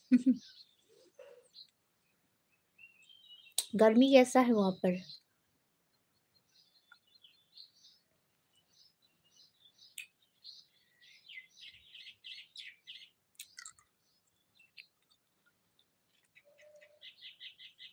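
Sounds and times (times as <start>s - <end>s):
small birds chirping faintly: 0.0s - 17.9s.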